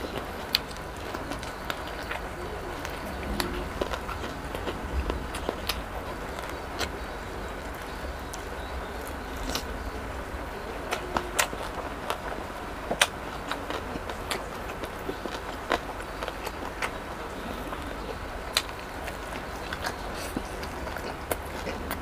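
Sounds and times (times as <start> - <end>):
chewing fried chicken: 0.0 - 22.0.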